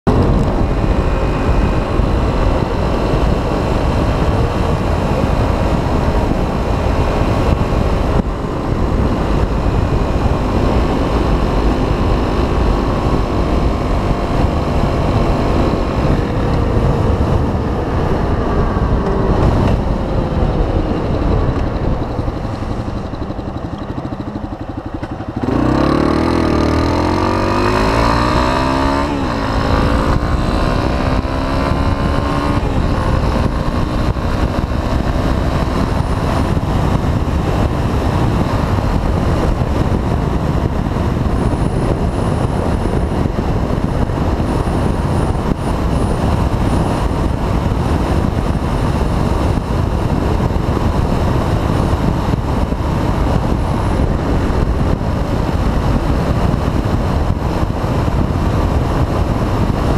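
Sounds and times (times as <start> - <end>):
motorcycle engine revving: 0.0 - 59.9
wind and road noise: 0.0 - 59.9
gear change: 0.1 - 59.9.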